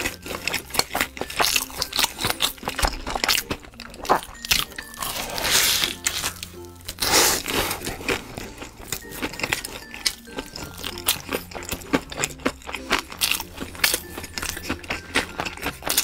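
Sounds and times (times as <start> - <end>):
soft background music: 0.0 - 16.0
wet chewing and mouth smacks: 0.0 - 16.0.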